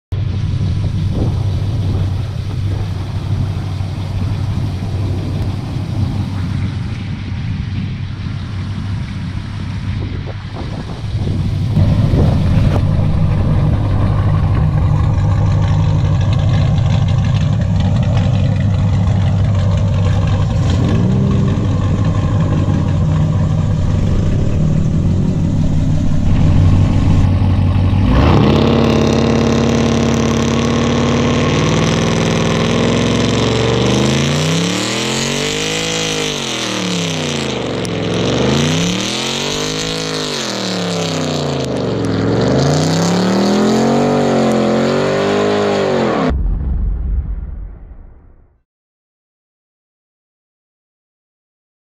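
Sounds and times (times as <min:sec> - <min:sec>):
truck engine idling and revving: 0:00.0 - 0:47.0.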